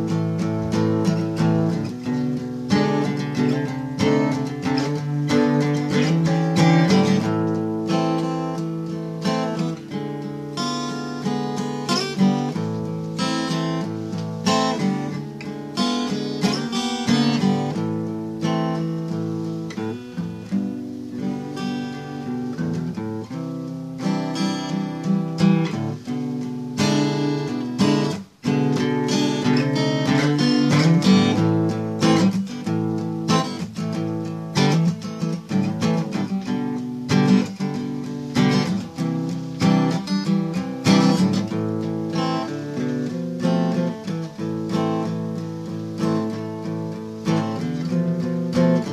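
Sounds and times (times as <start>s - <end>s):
acoustic guitar music: 0.0s - 48.9s.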